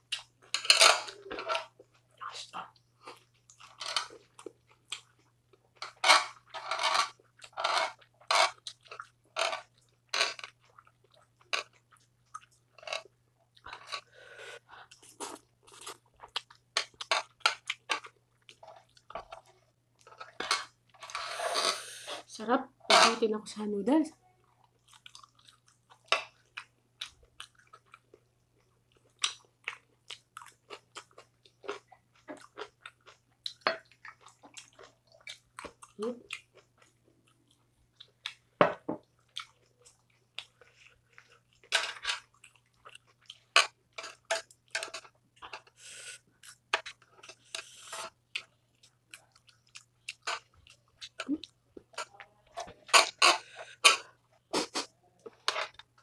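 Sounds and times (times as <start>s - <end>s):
chewing food: 0.0s - 21.1s, 24.2s - 56.0s.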